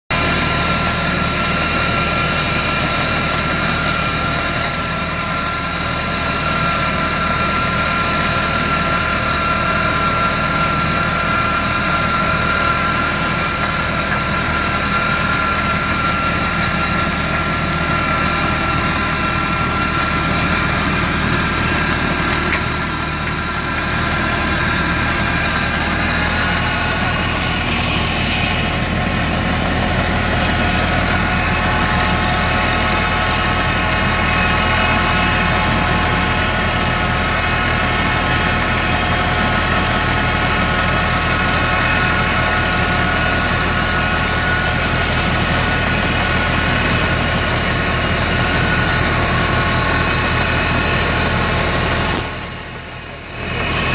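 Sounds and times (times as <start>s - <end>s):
harvester machine drone: 0.0s - 53.9s.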